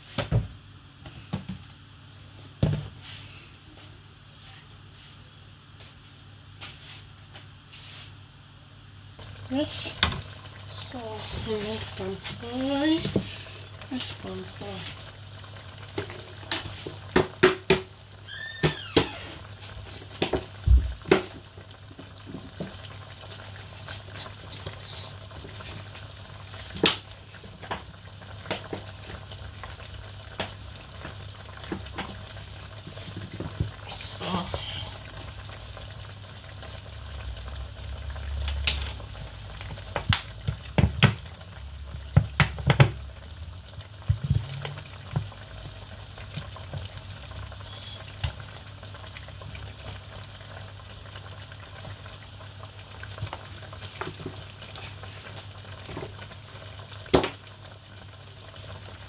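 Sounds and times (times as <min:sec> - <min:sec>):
meat sizzling: 0:09.2 - 0:59.0.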